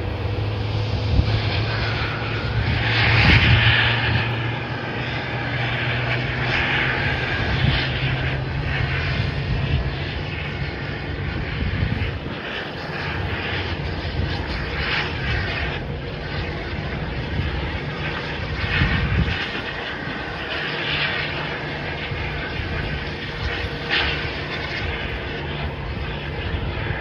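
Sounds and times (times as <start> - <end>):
distant jet engine whine: 0.0 - 27.0.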